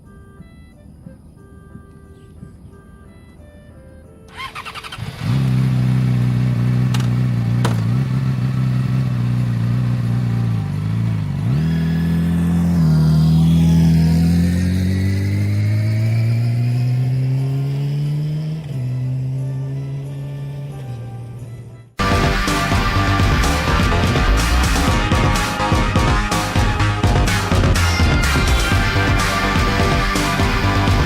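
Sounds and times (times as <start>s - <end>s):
motorcycle engine accelerating: 4.3s - 31.0s.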